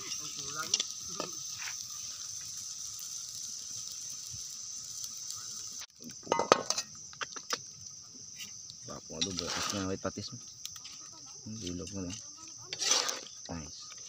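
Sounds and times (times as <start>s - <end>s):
chicken sizzling in a wok: 0.0s - 14.0s.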